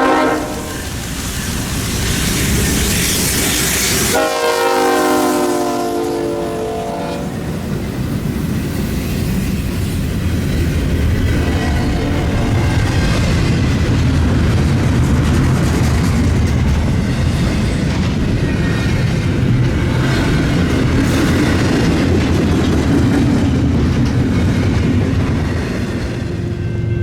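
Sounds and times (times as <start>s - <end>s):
diesel locomotive engine running: 0.0s - 27.0s
train wheels clattering over rails: 0.5s - 4.2s, 7.2s - 26.3s.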